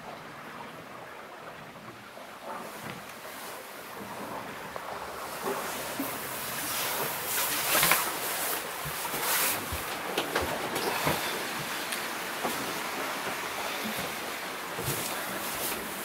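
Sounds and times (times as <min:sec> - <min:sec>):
water rushing along hull: 0:00.0 - 0:16.0.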